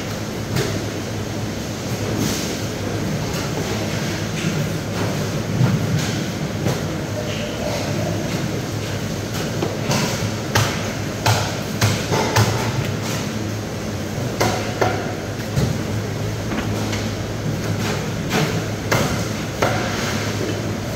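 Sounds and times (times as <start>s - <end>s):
low machinery hum: 0.0s - 20.9s.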